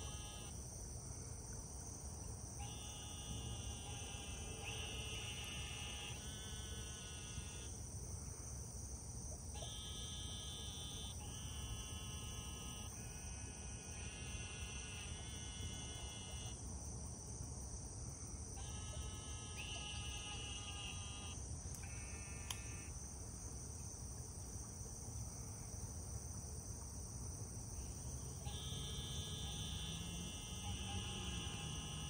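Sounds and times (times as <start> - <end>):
insects droning: 0.0 - 32.0
insects pulsing trills: 0.0 - 32.0.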